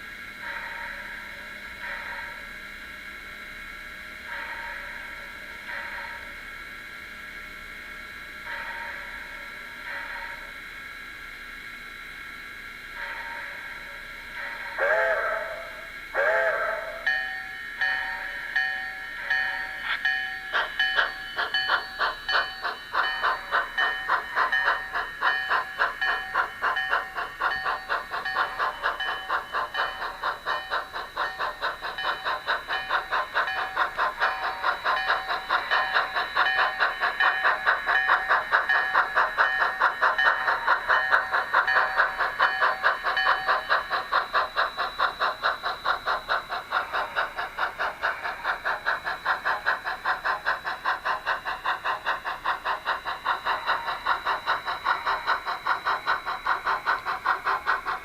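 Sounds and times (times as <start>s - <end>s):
model train running: 0.0s - 58.0s.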